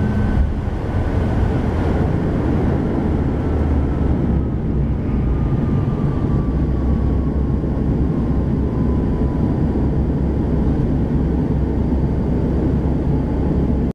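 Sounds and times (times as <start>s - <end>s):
aircraft cabin drone: 0.0s - 13.9s
faint turboprop whine: 0.0s - 13.9s.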